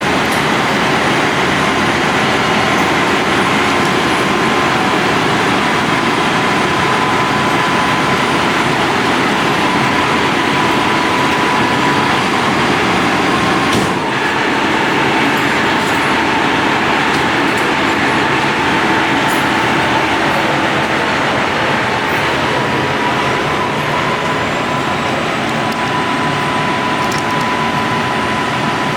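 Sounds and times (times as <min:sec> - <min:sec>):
heavy vehicle running with whine: 0:00.0 - 0:28.9.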